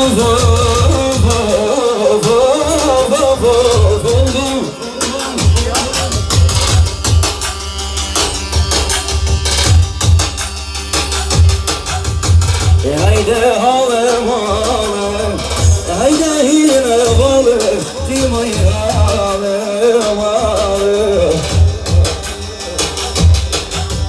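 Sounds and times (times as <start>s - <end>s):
steady drum beat: 0.0s - 24.0s.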